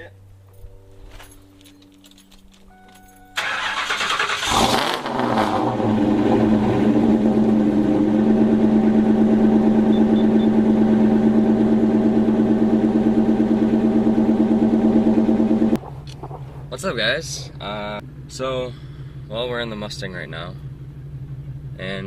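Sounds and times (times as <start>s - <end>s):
car engine starting and idling: 1.9s - 22.0s.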